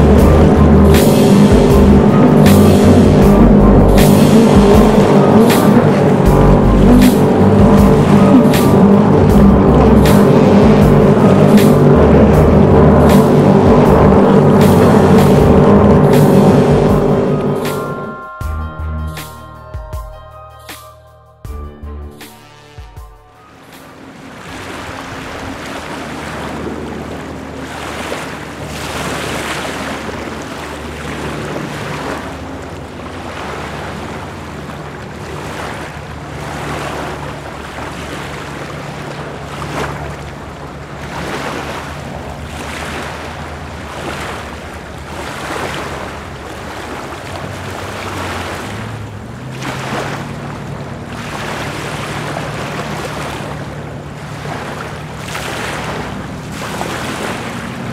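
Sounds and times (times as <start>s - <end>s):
choppy lake water: 0.0s - 18.4s, 23.1s - 57.9s
boat motors humming: 0.0s - 57.9s.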